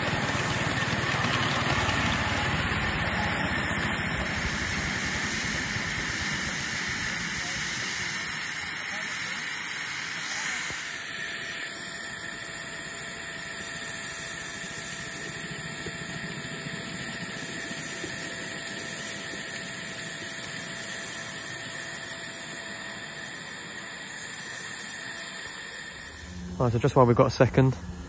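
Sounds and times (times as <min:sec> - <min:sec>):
steam hissing: 0:00.0 - 0:28.0.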